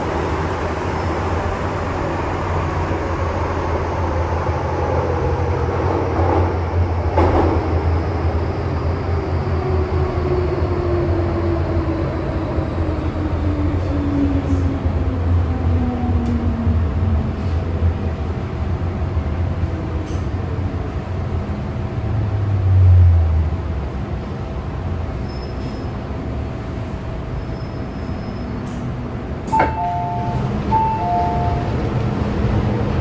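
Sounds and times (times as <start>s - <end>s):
train running noise: 0.0s - 33.0s.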